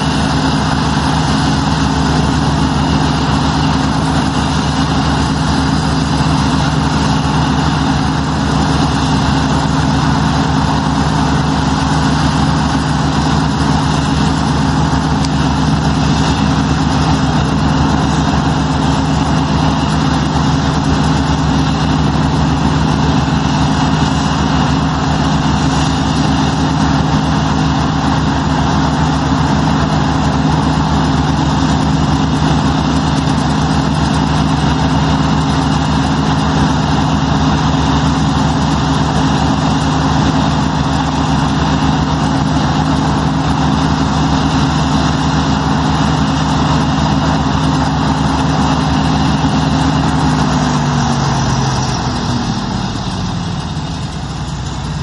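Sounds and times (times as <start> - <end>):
combine harvester engine drone: 0.0 - 55.0
threshing machinery rushing: 0.0 - 55.0.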